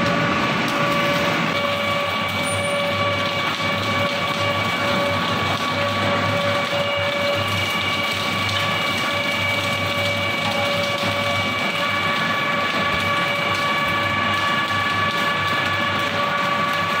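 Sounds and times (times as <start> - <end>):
wood shredder electric whine: 0.0 - 17.0.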